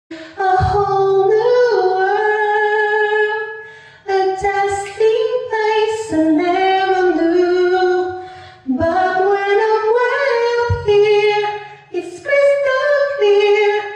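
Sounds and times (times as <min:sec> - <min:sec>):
person singing a cappella: 0:00.1 - 0:13.9.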